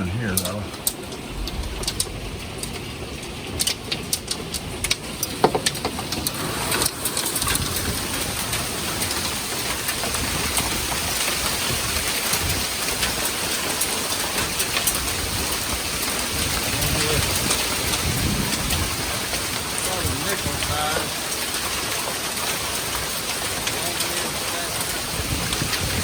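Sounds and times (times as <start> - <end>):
downpour of hail and rain: 0.0 - 26.0
hailstones striking hard surfaces: 0.0 - 26.0.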